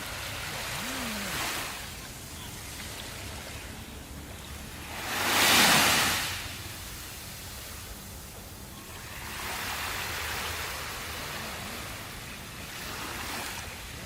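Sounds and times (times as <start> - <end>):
sea waves breaking: 0.0 - 14.0.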